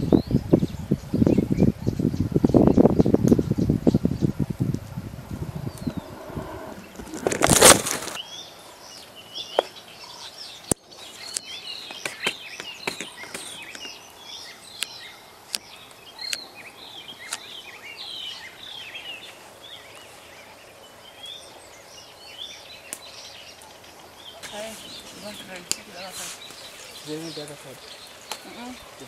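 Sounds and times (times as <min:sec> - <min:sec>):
small birds chirping and twittering: 0:00.0 - 0:29.0.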